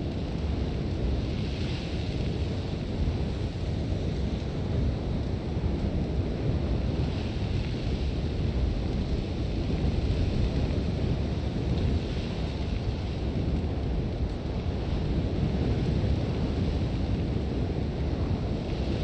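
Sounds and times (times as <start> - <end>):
sandstorm wind blowing hard: 0.0 - 19.0.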